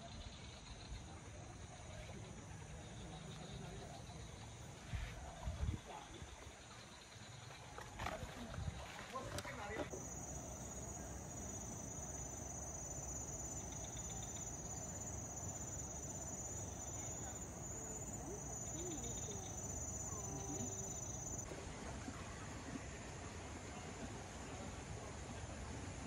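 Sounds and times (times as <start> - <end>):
insects trilling: 0.0 - 21.5
faint outdoor hiss: 0.0 - 26.0.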